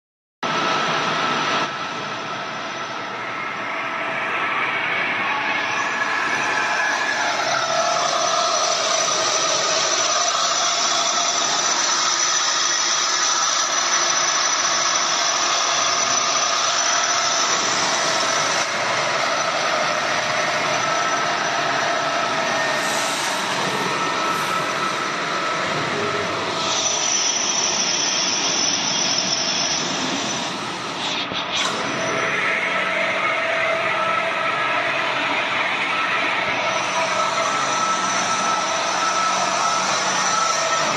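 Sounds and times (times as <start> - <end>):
lathe running with gear whine: 0.5 - 40.9.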